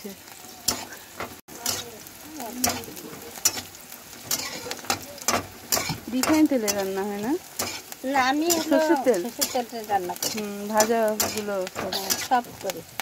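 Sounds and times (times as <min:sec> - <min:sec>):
onions sizzling in hot oil: 0:00.0 - 0:13.0
metal spatula scraping a pan: 0:00.6 - 0:12.7.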